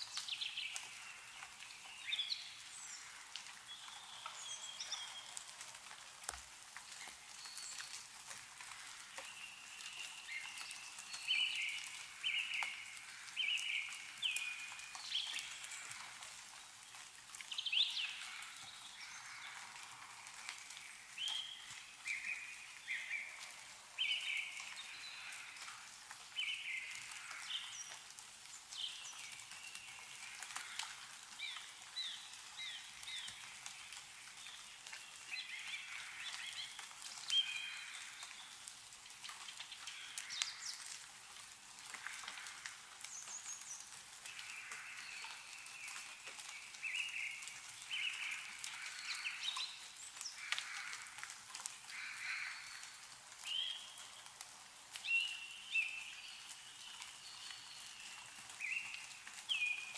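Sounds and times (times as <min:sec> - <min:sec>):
meltwater drips pattering: 0:00.0 - 0:59.9
songbirds calling: 0:06.9 - 0:41.1, 0:41.9 - 0:59.9.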